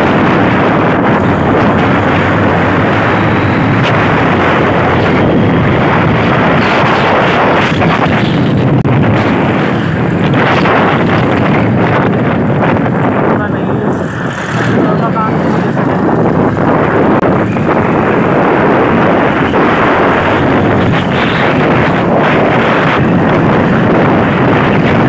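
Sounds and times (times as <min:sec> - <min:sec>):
vehicle running noise: 0:00.0 - 0:25.0
wind buffeting microphone: 0:00.0 - 0:25.0.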